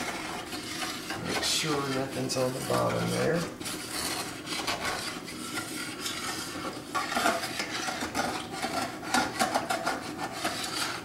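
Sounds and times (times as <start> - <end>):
metal spatula scraping a skillet: 0.0 - 11.0.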